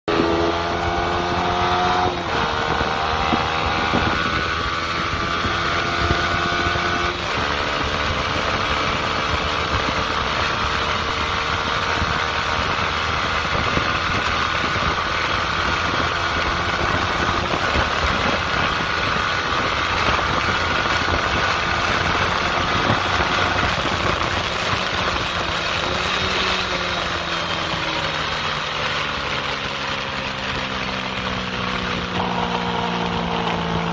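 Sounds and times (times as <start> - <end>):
motorcycle engine accelerating: 0.0 - 33.9
wind noise: 0.1 - 28.2.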